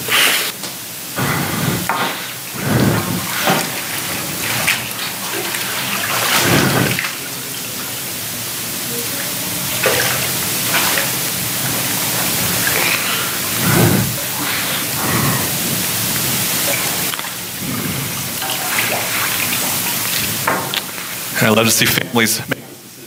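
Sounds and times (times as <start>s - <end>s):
steady hiss: 0.0s - 23.0s
water sloshing and splashing: 1.7s - 21.3s.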